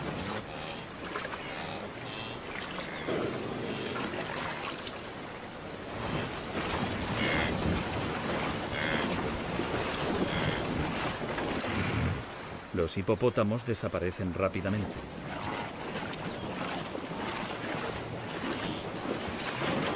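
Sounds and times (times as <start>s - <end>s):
water splashing and churning: 0.0s - 19.9s.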